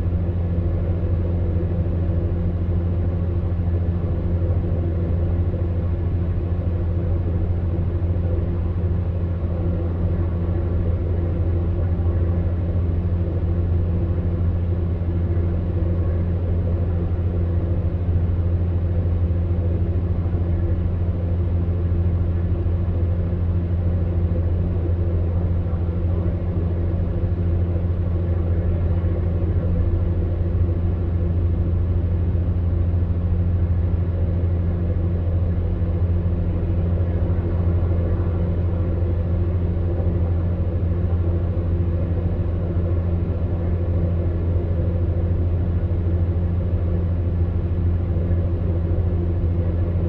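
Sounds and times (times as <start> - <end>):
fan heater humming: 0.0 - 50.0.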